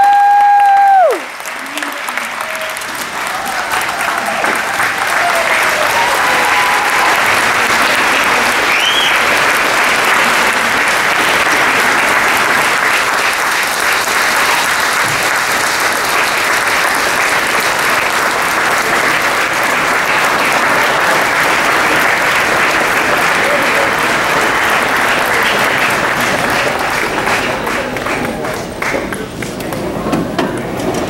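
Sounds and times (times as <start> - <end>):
large audience applauding: 0.0 - 31.0.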